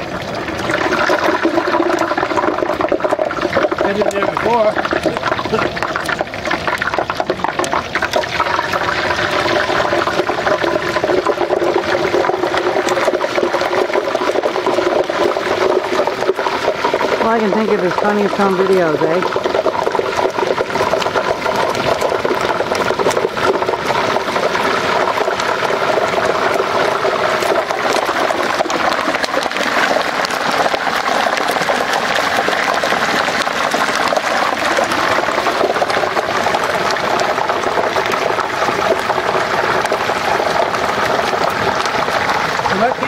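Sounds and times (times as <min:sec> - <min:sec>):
hot oil bubbling and sizzling: 0:00.0 - 0:43.0.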